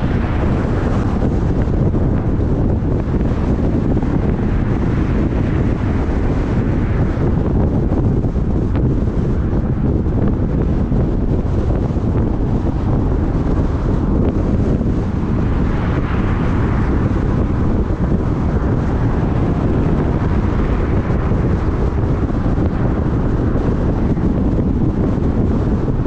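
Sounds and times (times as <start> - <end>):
road and tyre noise: 0.0 - 26.0
wind buffeting microphone: 0.0 - 26.0.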